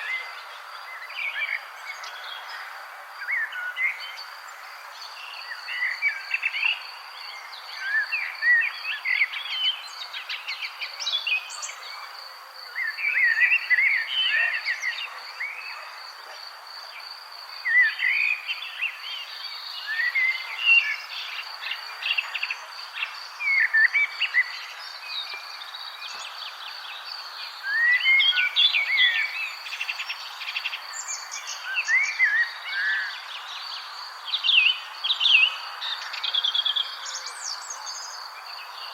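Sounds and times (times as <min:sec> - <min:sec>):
outdoor background hiss: 0:00.0 - 0:38.9
songbirds warbling: 0:00.0 - 0:38.9.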